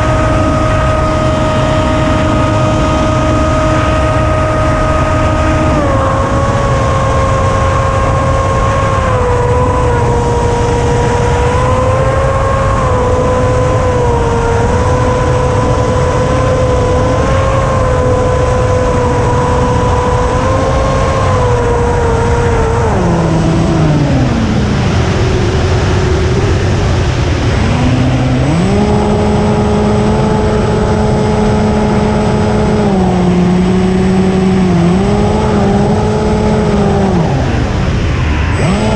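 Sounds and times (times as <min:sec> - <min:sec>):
electric motor and propeller whining: 0:00.0 - 0:38.9
heavy wind rush: 0:00.0 - 0:38.9.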